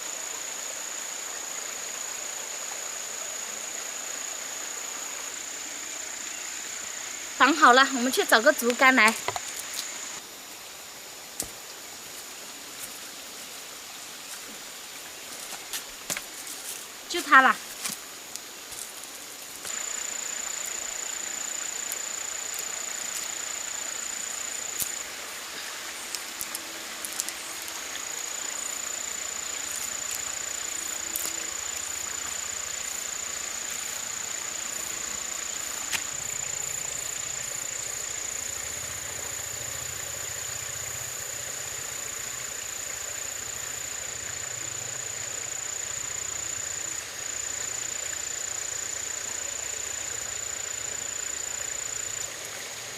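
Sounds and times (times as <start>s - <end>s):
high-pitched insect drone: 0.0s - 11.3s, 16.4s - 52.9s.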